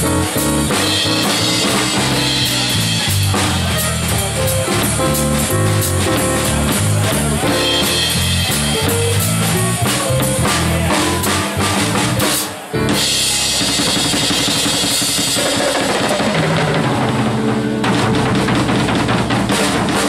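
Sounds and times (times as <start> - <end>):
swing jazz on drums and piano: 0.0 - 20.0.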